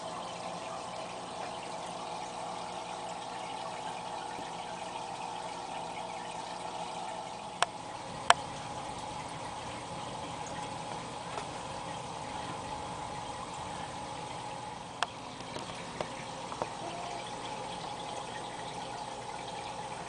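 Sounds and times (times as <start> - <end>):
water trickling in aquarium: 0.0 - 20.0.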